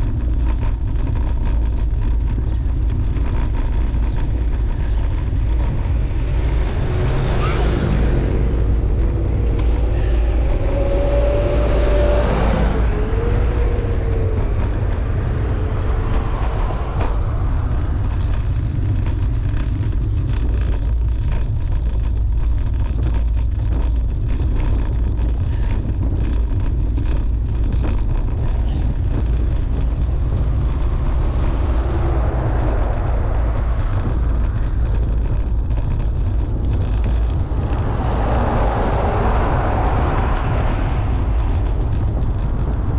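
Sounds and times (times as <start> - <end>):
road and tyre noise: 0.0 - 42.9
wind rushing over microphone: 0.0 - 42.9.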